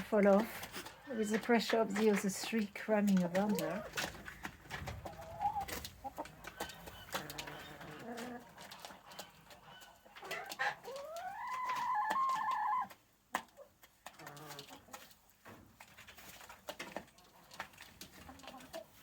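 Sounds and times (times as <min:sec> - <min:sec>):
chickens calling: 0:00.2 - 0:19.0.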